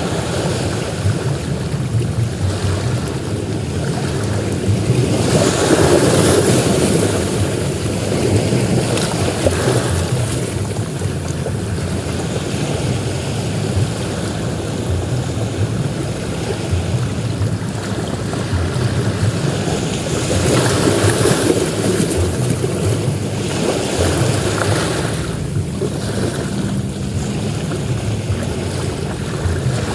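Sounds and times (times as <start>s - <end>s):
ocean surf on a beach: 0.0s - 29.9s
wave breaking: 0.0s - 29.9s.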